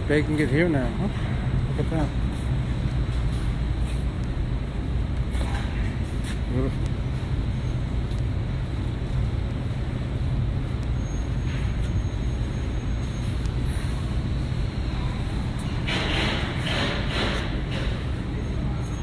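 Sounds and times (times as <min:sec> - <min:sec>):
bakery machinery rumbling: 0:00.0 - 0:19.0.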